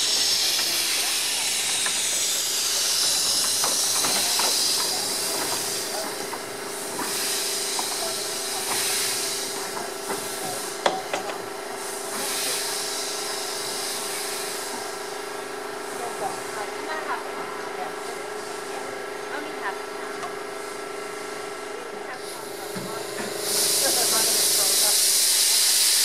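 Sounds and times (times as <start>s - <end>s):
steam hissing in pulses: 0.0s - 26.0s.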